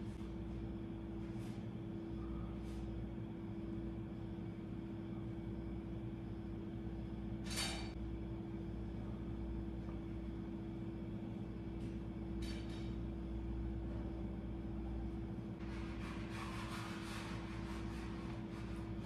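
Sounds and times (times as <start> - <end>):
mechanical background hum: 0.0 - 19.0.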